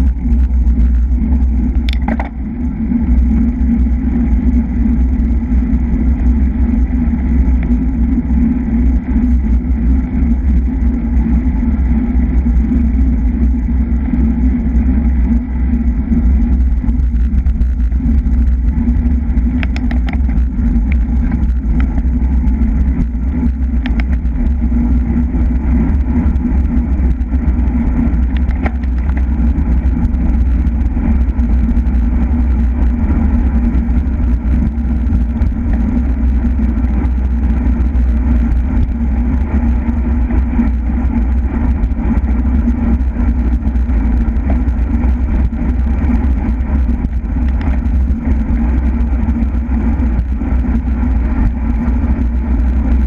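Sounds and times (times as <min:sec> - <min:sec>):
wind rumble on microphone: 0:00.0 - 0:53.0.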